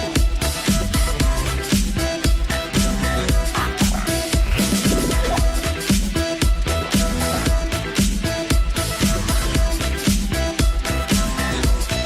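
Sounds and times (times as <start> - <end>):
dance music with driving beat: 0.0 - 12.0.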